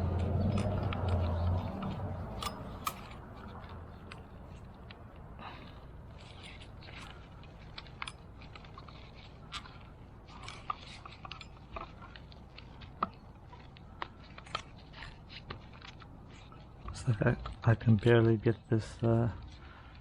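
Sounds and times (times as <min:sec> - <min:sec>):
plastic parts clicking and scraping: 0:00.0 - 0:20.0.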